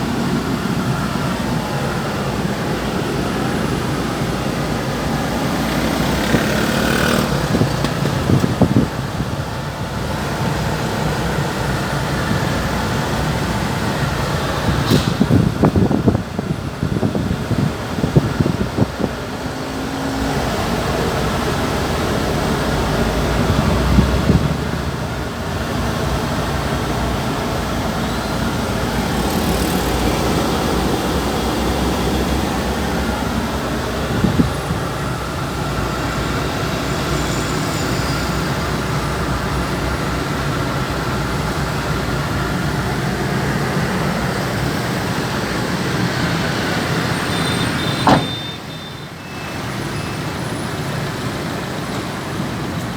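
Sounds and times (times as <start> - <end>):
vehicle engine and road noise: 0.0 - 52.9.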